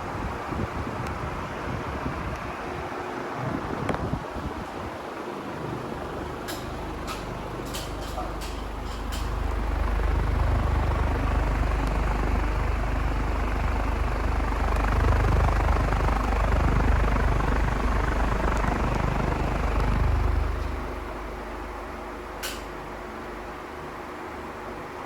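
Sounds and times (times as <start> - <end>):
ceiling fan running fast: 0.0 - 25.0.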